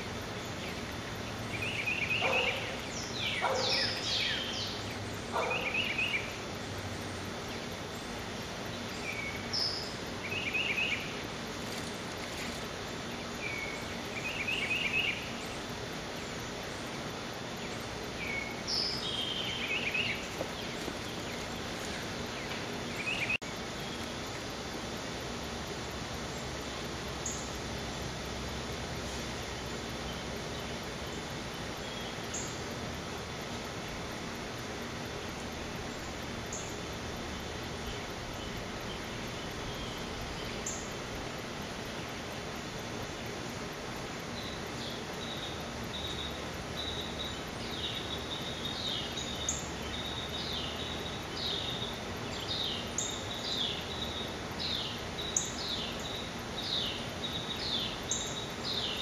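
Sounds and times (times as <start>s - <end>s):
steady outdoor hiss: 0.0s - 59.0s.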